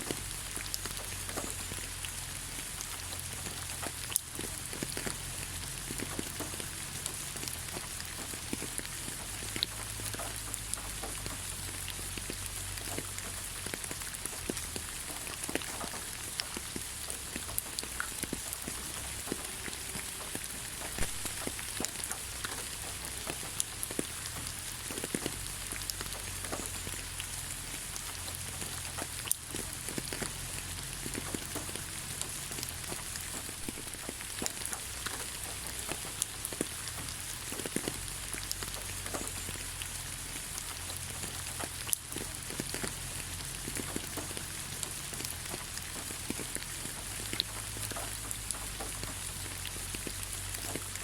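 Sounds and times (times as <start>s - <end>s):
raindrop taps: 0.0s - 51.0s
steady rain hiss: 0.0s - 51.0s.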